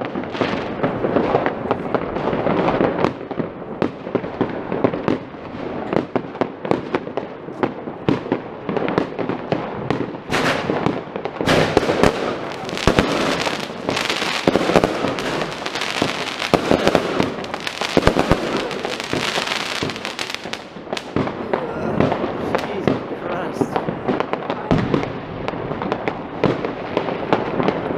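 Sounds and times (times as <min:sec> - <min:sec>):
fireworks and firecrackers banging: 0:00.0 - 0:27.9.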